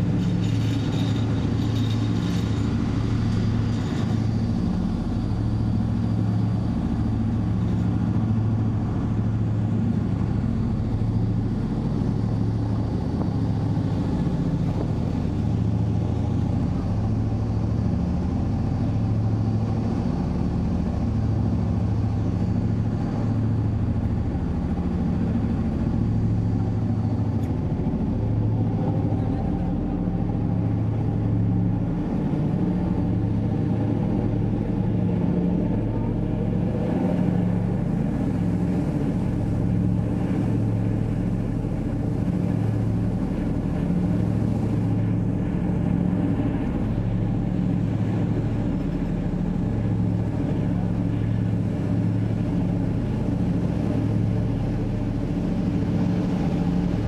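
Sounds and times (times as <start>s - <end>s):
ship engines droning: 0.0s - 57.0s
wind and water rushing: 0.0s - 57.0s.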